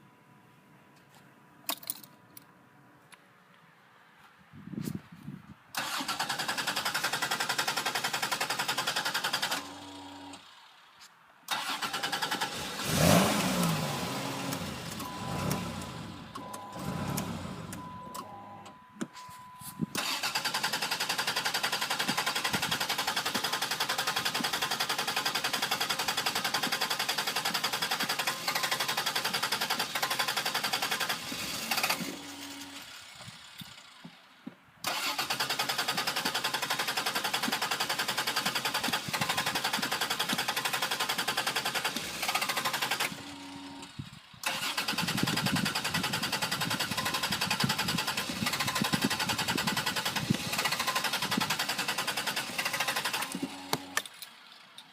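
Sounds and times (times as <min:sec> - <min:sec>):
car engine cranking: 0:05.7 - 0:10.7, 0:11.5 - 0:34.2, 0:34.8 - 0:54.9.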